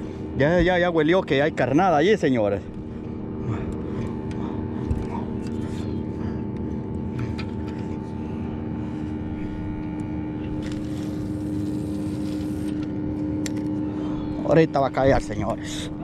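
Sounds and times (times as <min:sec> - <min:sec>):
steady motor drone: 0:00.0 - 0:16.0.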